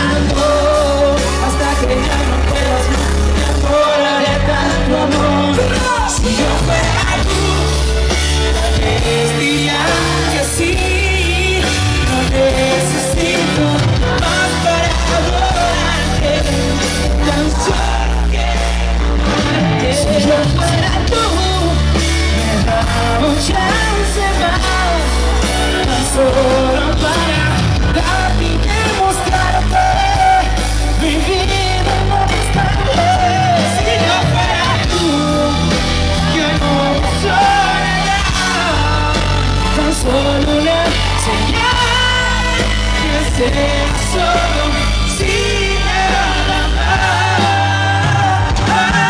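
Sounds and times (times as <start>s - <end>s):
live band music: 0.0s - 49.0s
man singing: 0.0s - 49.0s.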